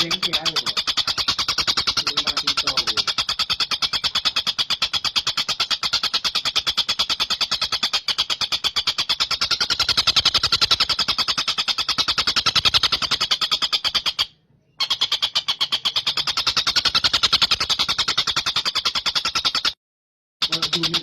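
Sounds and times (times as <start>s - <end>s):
kingfisher chattering rattle: 0.0s - 19.8s, 20.4s - 21.0s.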